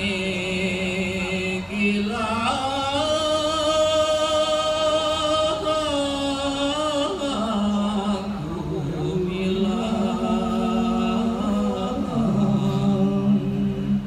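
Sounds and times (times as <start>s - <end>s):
man chanting unaccompanied: 0.0s - 14.0s.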